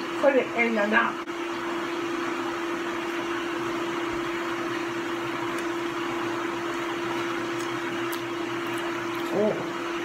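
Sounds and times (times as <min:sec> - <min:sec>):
dishwasher running: 0:00.0 - 0:10.0.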